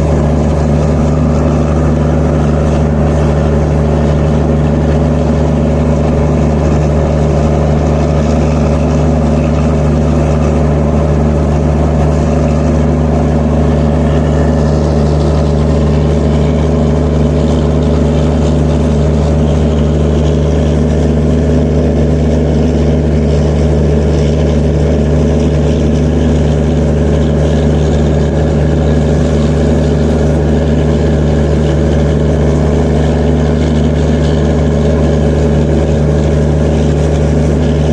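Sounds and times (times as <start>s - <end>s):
diesel generator low hum: 0.0s - 37.9s.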